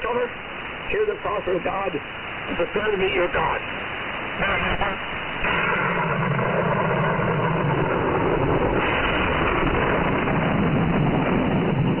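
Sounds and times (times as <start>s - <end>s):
radio static: 0.0s - 10.4s.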